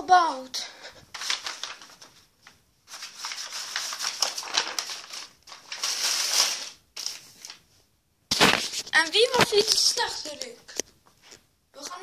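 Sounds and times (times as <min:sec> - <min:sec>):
irregular rustling and rubbing: 0:00.9 - 0:12.0.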